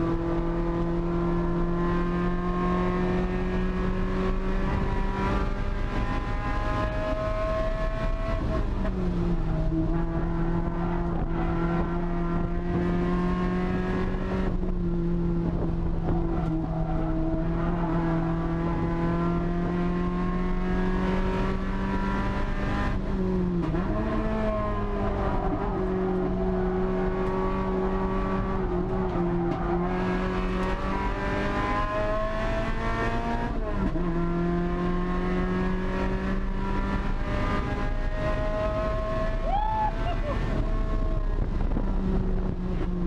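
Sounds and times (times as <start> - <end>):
car engine revving high: 0.0 - 43.0.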